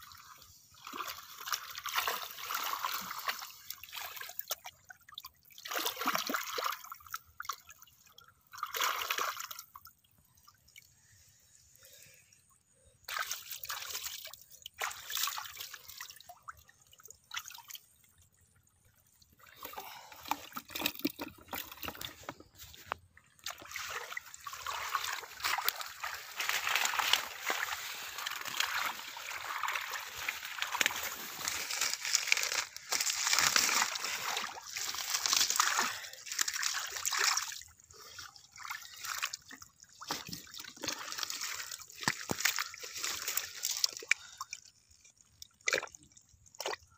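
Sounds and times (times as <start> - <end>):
hands sloshing in muddy water: 0.0 - 9.7, 13.0 - 17.8, 19.2 - 46.9.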